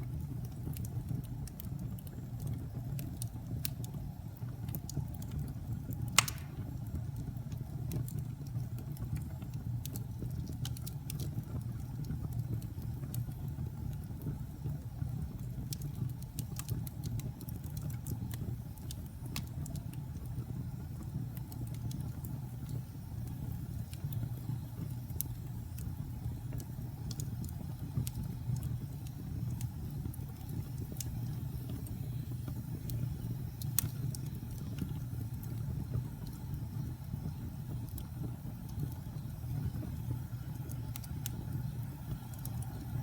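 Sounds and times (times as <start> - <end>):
fire crackles and pops: 0.0 - 43.0
low rumble of flames: 0.0 - 43.0.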